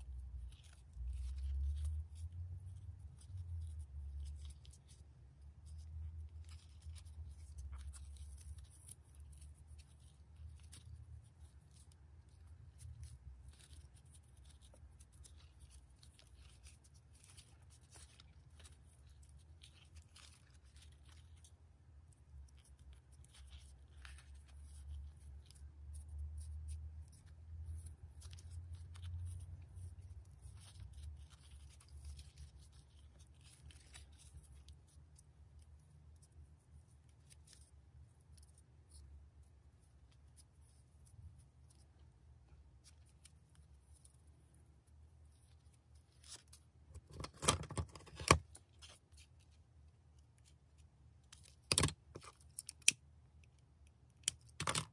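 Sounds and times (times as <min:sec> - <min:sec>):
ribbon rustling and crackling: 0:00.0 - 0:54.9.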